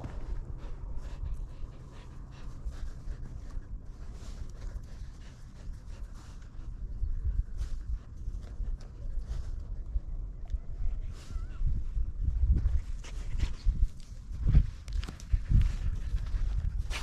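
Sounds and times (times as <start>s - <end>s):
low microphone rumble: 0.0s - 17.0s.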